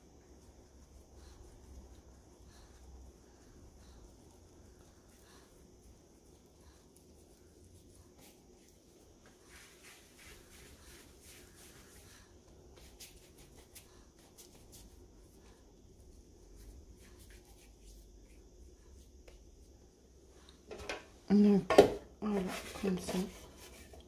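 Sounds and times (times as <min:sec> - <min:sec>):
hands patting dough: 0:00.0 - 0:19.9.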